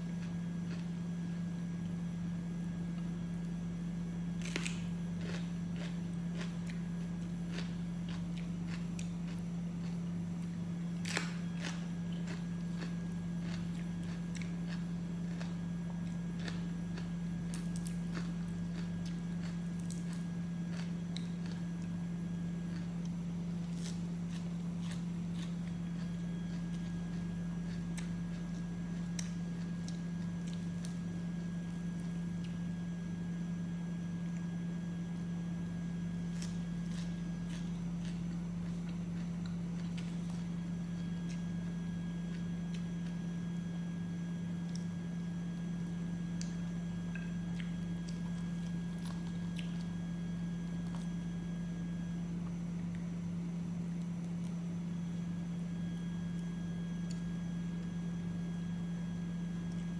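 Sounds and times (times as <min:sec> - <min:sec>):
food crackling and chewing: 0:00.0 - 0:59.9
steady low hum: 0:00.0 - 0:59.9.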